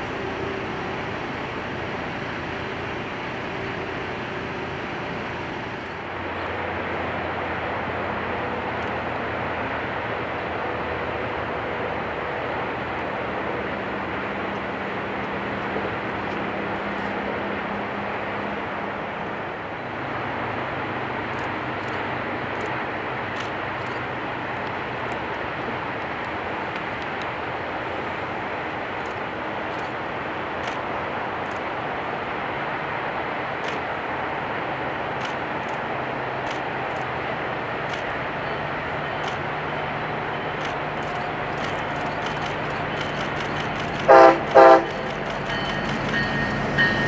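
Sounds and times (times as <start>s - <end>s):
distant diesel locomotive rumble: 0.0s - 47.0s.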